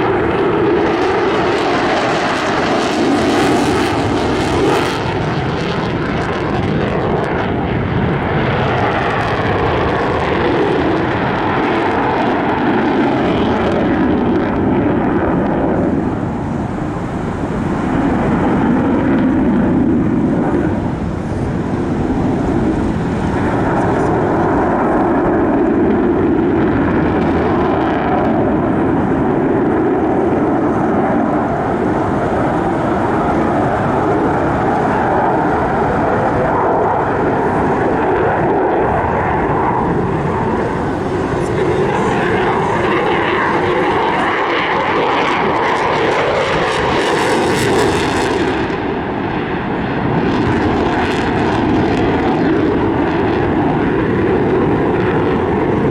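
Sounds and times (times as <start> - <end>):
airplane engine: 0.0 - 55.9.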